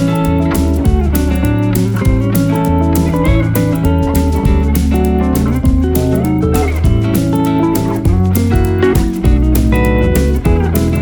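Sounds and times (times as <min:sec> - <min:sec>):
plucked guitar music with beat: 0:00.0 - 0:11.0.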